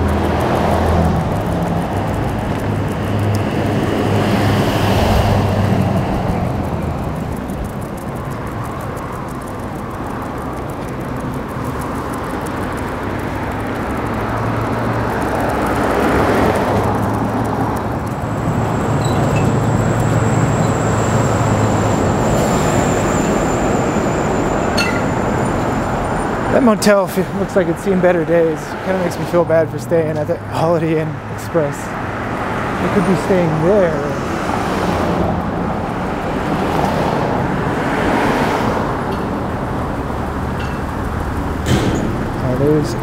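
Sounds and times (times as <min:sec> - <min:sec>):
cars and trucks passing: 0:00.0 - 0:43.0.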